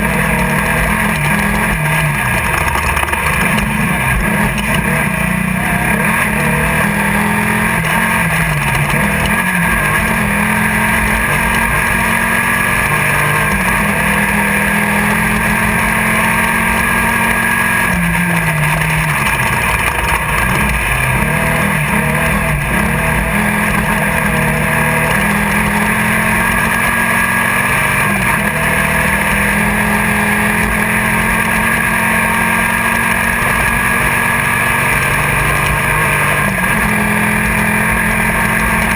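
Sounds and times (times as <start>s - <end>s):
buggy engine running hard: 0.0s - 38.9s
terrain and chassis noise: 0.0s - 38.9s.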